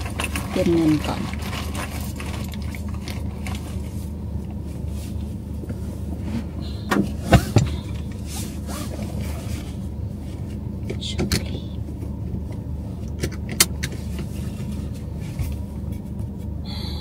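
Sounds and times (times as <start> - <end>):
low hum in car cabin: 0.0 - 17.0.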